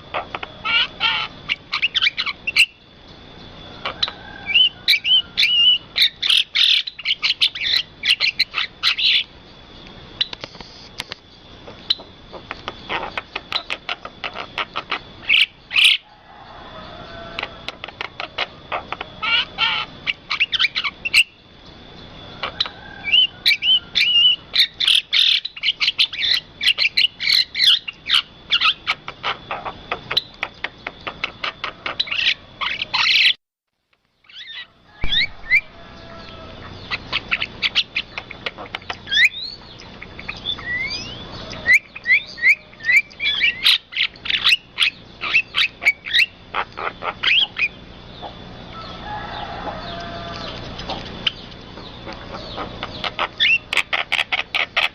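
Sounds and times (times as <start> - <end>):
birds chirping and whistling: 0.0 - 10.4, 11.3 - 33.4, 34.2 - 54.9.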